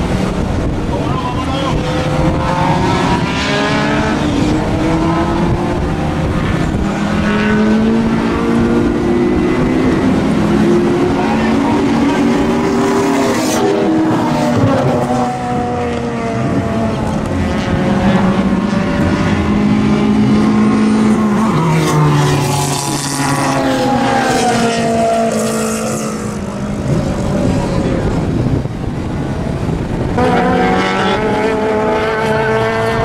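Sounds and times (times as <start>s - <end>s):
race car engines at speed: 0.0s - 33.0s.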